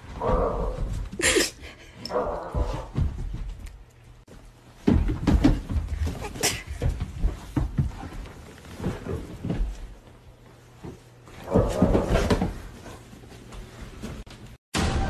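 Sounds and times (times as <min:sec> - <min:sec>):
dogs scuffling and thudding: 0:00.0 - 0:14.6.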